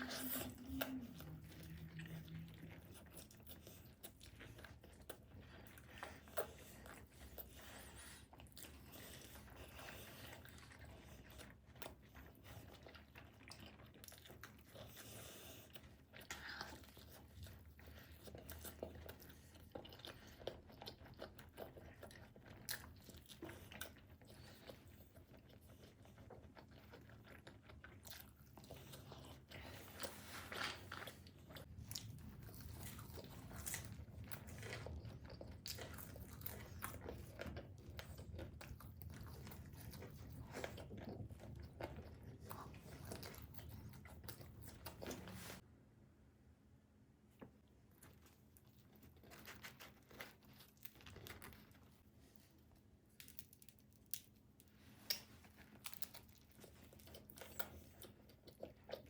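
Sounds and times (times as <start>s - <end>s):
chewing pizza crunches: 0.0s - 45.6s, 47.9s - 59.0s.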